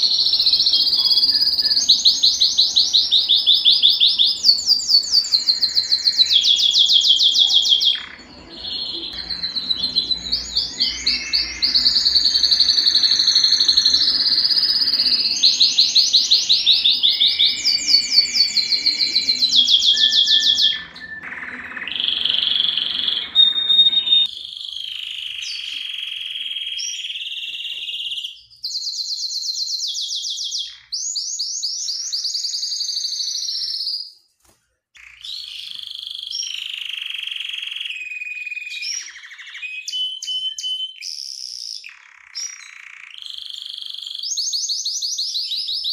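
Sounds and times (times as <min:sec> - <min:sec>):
canary singing: 0:00.0 - 0:34.1, 0:35.0 - 0:45.9.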